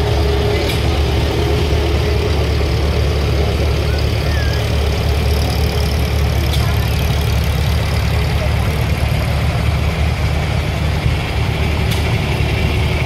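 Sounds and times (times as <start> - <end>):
tractor engine passing: 0.0 - 13.0.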